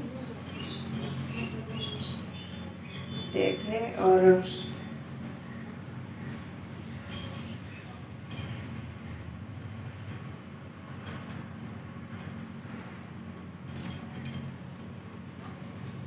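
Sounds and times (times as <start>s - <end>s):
bangles clinking: 0.0s - 16.0s
steady low hum: 0.0s - 16.0s.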